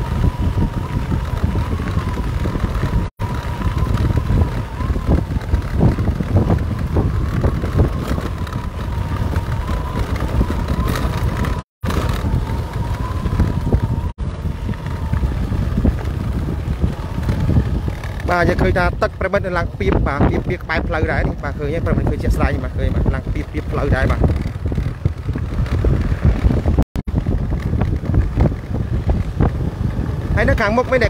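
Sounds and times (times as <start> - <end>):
moving vehicle running noise: 0.0 - 31.0
wind buffeting microphone: 0.0 - 31.0.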